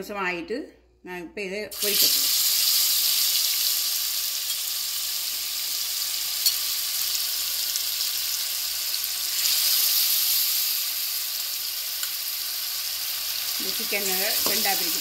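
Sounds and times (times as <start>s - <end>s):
chicken sizzling in oil: 1.8s - 15.0s.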